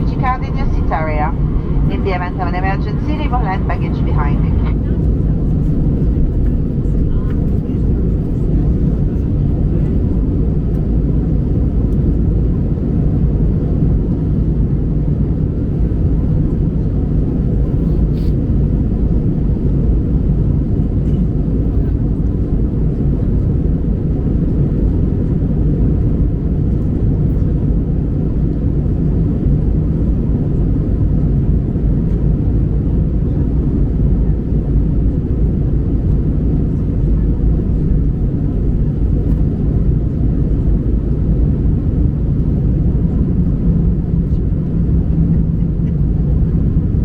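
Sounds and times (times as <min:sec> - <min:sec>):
airplane cabin engine rumble: 0:00.0 - 0:47.0.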